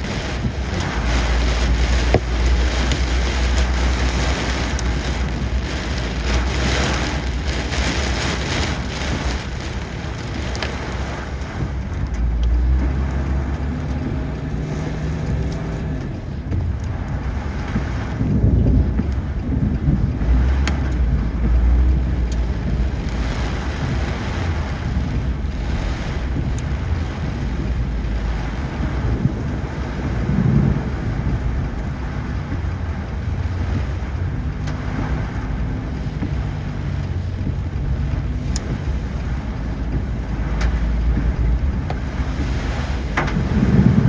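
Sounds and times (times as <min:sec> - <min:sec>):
car engine and road rumble: 0:00.0 - 0:44.0
tyres hissing on wet road: 0:00.0 - 0:44.0.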